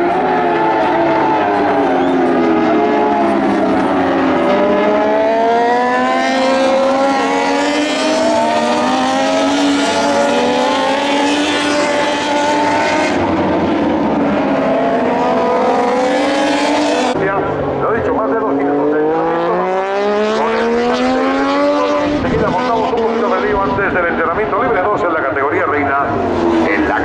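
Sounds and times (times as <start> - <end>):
racing motorcycles at full throttle: 0.0 - 27.0.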